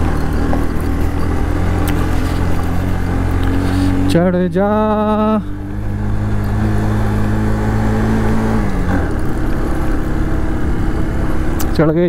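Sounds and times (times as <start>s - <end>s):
motorcycle engine pulling hard: 0.0s - 12.0s.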